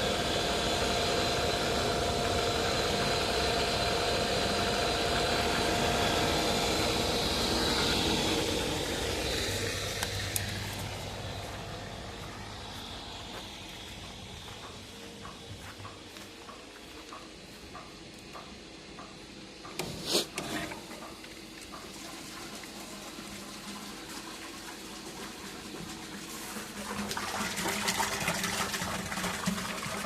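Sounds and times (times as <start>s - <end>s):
electric water pump humming: 0.0s - 30.0s.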